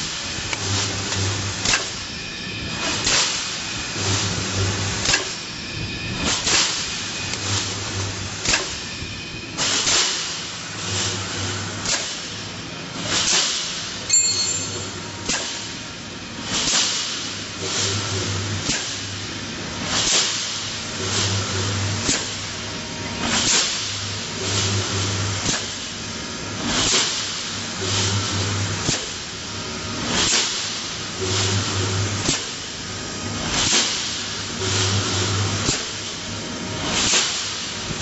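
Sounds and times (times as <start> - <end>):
pneumatic cylinder clacks and hisses: 0.0 - 14.1, 15.2 - 38.0.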